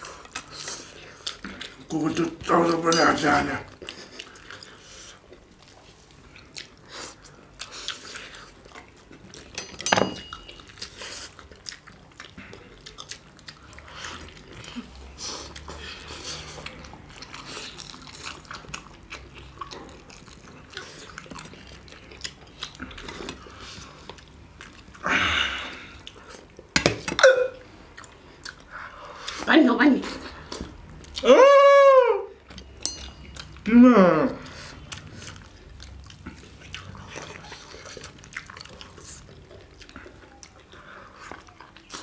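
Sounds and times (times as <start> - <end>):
people chewing food: 0.0 - 42.0.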